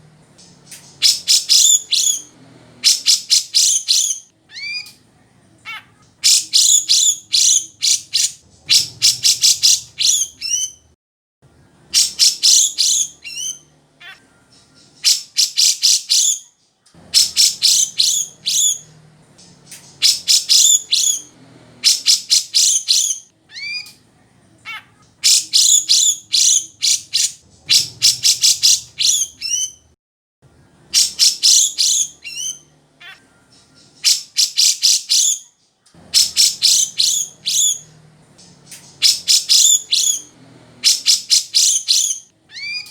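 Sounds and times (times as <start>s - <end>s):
bird singing chattering notes: 0.3s - 2.3s, 2.9s - 4.9s, 5.7s - 10.8s, 11.9s - 16.4s, 17.2s - 23.9s, 25.2s - 29.9s, 31.0s - 35.4s, 36.1s - 42.9s.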